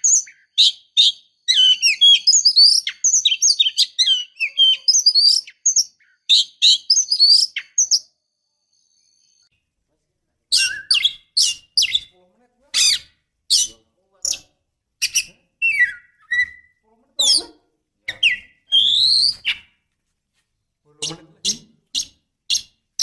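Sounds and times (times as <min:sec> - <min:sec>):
bird whistled chirps and trills: 0:00.0 - 0:09.5, 0:10.5 - 0:12.2, 0:12.8 - 0:17.5, 0:18.1 - 0:19.8, 0:21.0 - 0:23.0.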